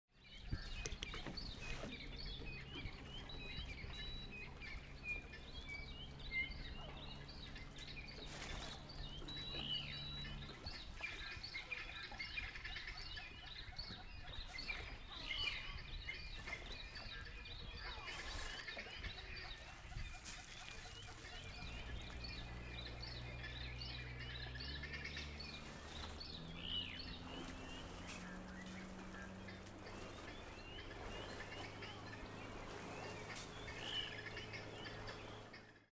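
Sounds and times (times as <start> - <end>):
small birds chirping: 0.1 - 35.9
low steady hum: 0.2 - 35.9.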